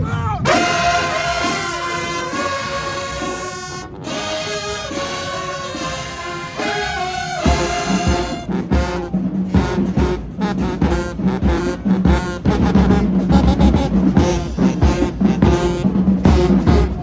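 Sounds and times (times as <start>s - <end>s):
steady drum beat: 0.0s - 17.0s
brass low held notes: 0.4s - 17.0s.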